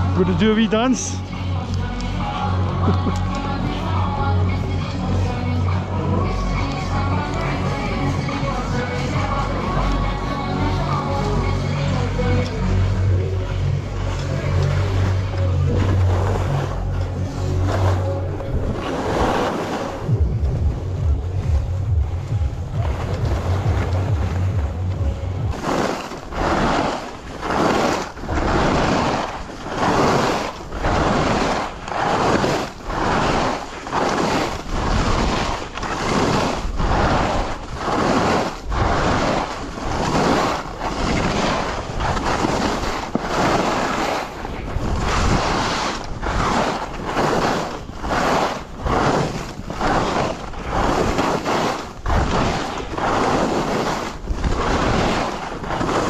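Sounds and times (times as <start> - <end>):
skis sliding over snow: 0.0 - 56.0
wind on microphone: 0.0 - 56.0.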